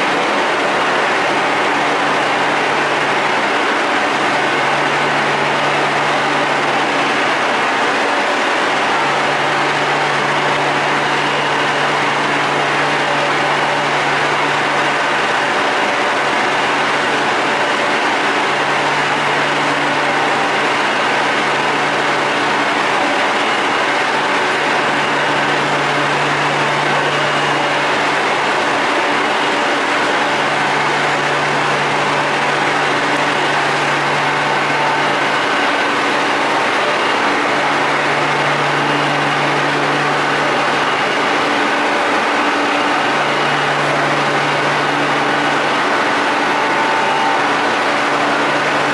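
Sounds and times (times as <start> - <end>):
train equipment hum and hiss: 0.0 - 48.9.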